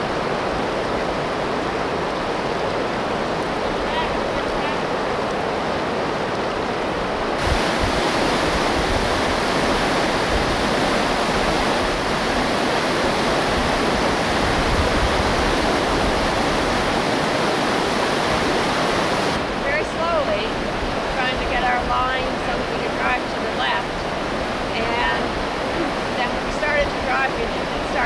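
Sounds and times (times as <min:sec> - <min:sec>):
whitewater rapids rushing: 0:00.0 - 0:28.0.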